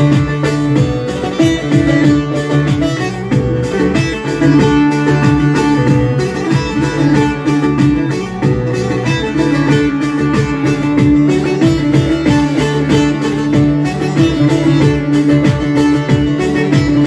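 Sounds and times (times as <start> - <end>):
plucked string folk music: 0.0 - 17.0.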